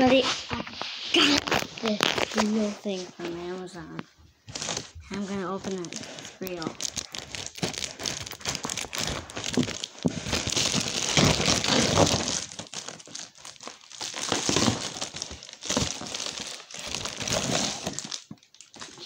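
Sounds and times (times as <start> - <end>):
packaging crinkling and rustling: 0.0 - 19.0.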